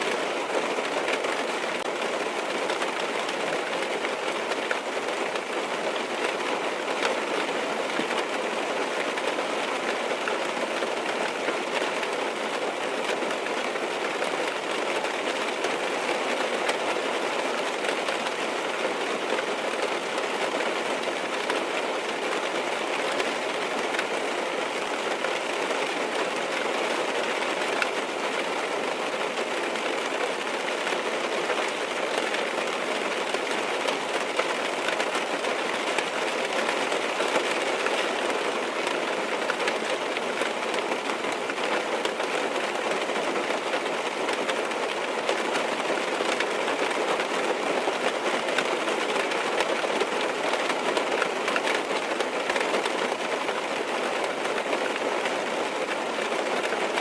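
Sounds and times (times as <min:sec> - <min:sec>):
rain on car roof: 0:00.0 - 0:57.0.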